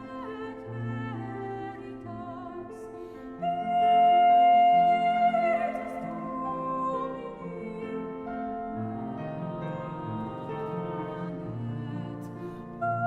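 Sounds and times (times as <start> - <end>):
slow classical music: 0.0 - 13.0.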